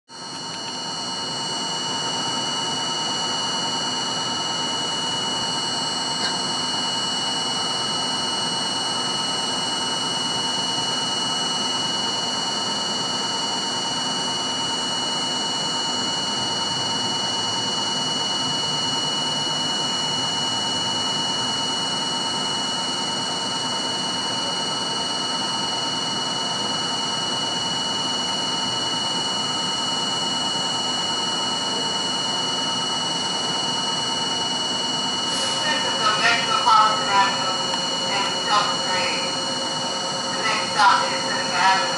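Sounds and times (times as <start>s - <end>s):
subway car equipment whine: 0.1s - 41.9s.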